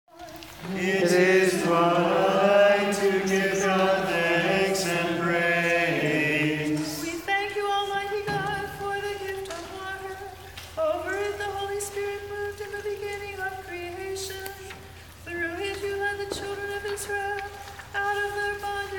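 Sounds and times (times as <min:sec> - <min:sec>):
voices singing chant: 0:00.2 - 0:18.9.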